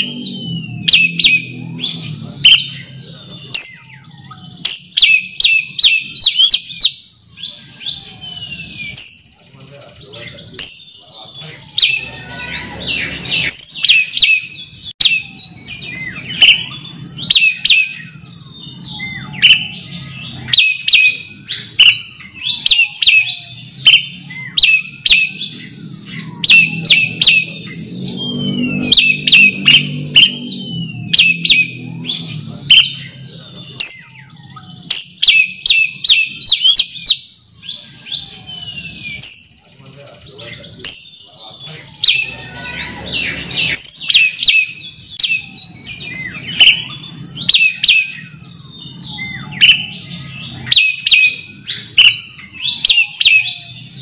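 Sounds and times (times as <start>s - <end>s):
low background murmur: 0.0s - 6.2s, 6.9s - 54.0s
bird singing sharp whistles: 0.0s - 9.4s, 11.7s - 33.2s, 33.8s - 39.6s, 42.0s - 54.0s.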